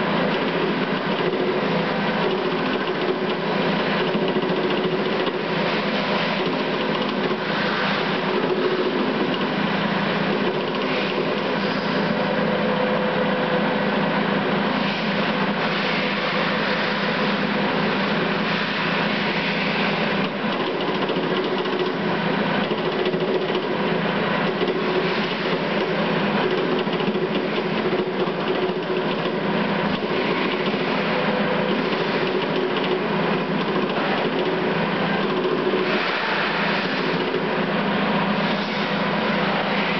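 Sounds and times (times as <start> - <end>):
fast mechanical chatter: 0.0 - 12.3, 15.0 - 39.9.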